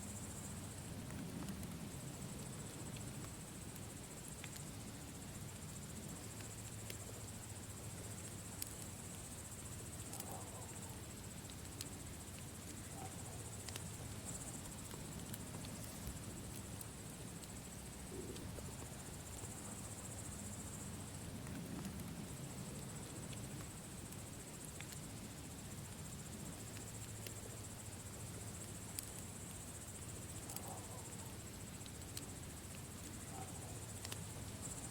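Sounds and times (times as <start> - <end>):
campfire crackling: 0.0 - 34.9
crickets chirring: 0.0 - 34.9
low steady rustle: 0.0 - 34.9.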